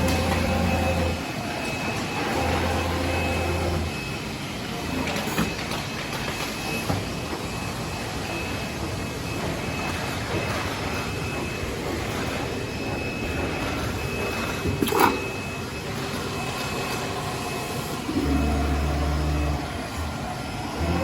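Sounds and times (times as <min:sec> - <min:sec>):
cnc router working: 0:00.0 - 0:21.0.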